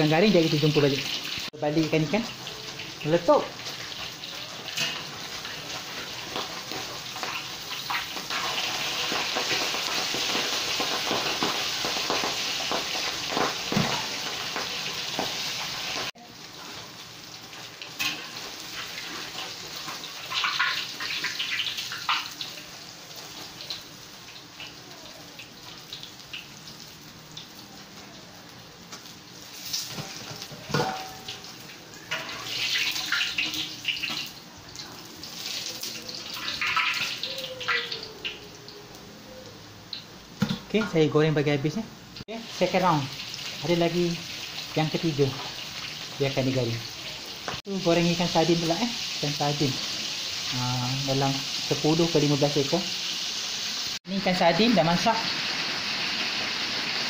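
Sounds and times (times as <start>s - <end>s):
fish deep-frying in oil: 0.0s - 57.0s.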